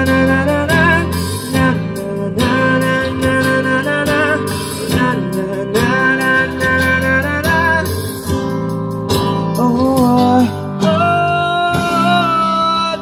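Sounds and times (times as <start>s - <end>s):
bass guitar: 0.0s - 13.0s
man singing amplified: 0.0s - 13.0s
strummed acoustic guitar: 0.0s - 13.0s.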